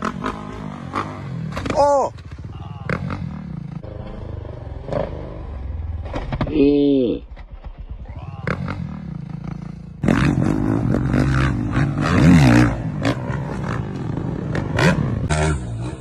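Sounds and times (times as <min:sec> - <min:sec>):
dirt bike engine revving: 0:00.0 - 0:06.3, 0:07.3 - 0:16.0.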